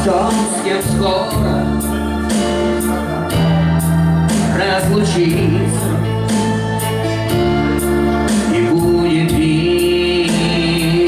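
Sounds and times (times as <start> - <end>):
bass: 0.0 - 11.0
man singing: 0.0 - 11.0
organ-like keyboard chords: 0.0 - 11.0.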